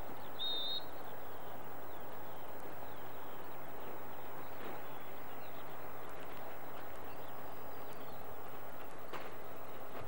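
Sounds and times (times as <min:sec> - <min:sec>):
steady background noise: 0:00.0 - 0:10.0.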